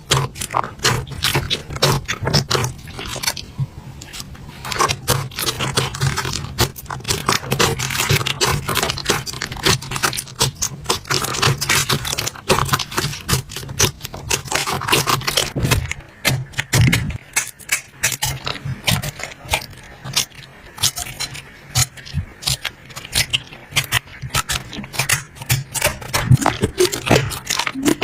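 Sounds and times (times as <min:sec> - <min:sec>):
slime squished by hand: 0:00.0 - 0:28.0.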